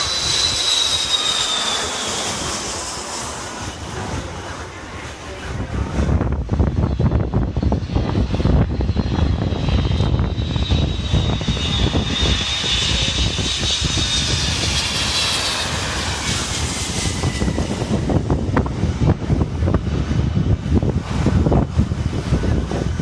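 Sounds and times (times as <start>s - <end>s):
jet engines whining overhead: 0.0s - 23.0s
wind buffeting microphone: 0.0s - 23.0s.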